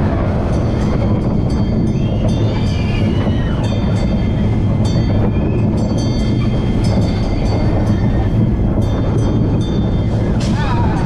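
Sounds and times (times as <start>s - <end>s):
roller coaster wheels rumbling: 0.0s - 11.0s.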